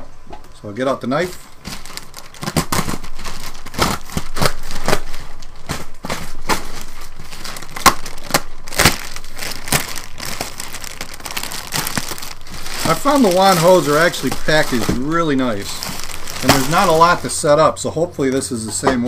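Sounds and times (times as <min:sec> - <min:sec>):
plastic bag crinkling: 0:01.2 - 0:18.6.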